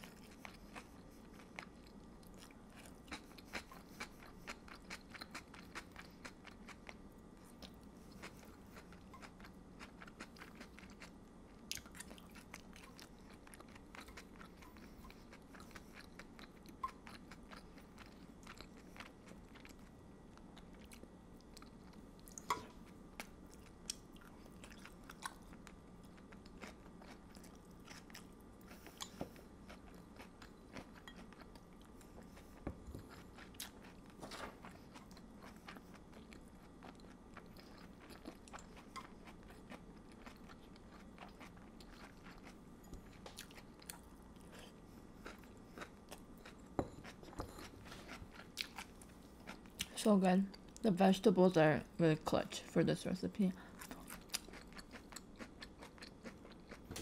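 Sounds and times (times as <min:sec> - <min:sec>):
chewing and biting: 0:00.0 - 0:49.9, 0:53.7 - 0:57.0.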